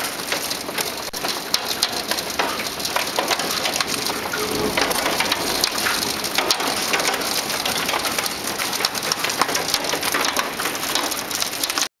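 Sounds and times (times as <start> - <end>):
hail and rain pelting down: 0.0 - 11.9.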